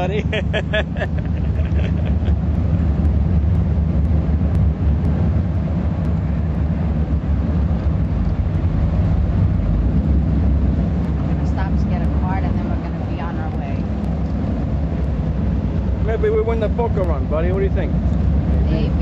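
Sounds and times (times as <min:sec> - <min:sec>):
powerboat engines droning: 0:00.0 - 0:19.0
rush of wind and water: 0:00.0 - 0:19.0.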